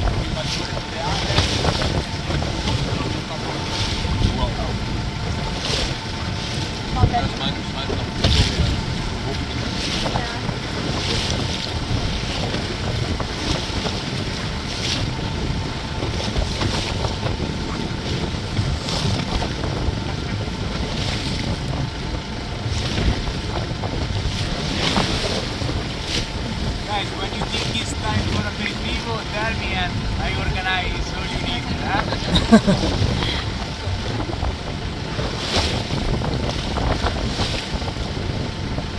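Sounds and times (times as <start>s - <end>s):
boat motor rumble: 0.0s - 38.9s
water rushing along hull: 0.0s - 38.9s
wind noise on microphone: 0.0s - 38.9s.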